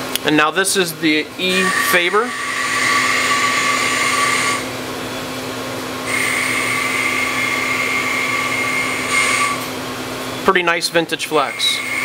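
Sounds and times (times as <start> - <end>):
high-pitched motor whine: 1.2 - 10.5, 11.3 - 12.0.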